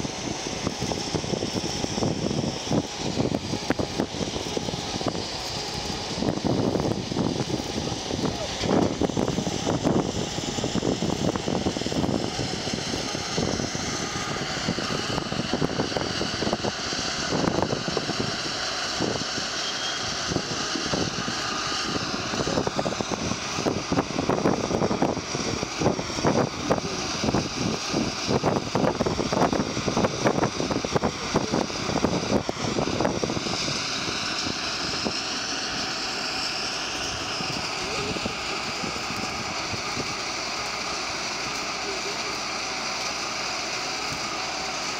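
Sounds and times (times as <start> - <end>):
tram whine: 0.0 - 44.9.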